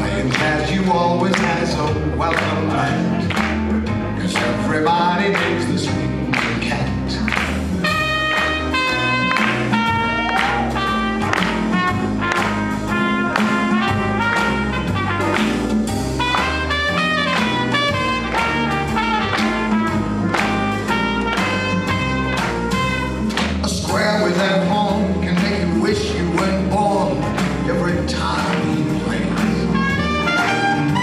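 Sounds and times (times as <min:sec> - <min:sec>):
swing jazz with brass: 0:00.0 - 0:31.0
walking bass line: 0:00.0 - 0:31.0.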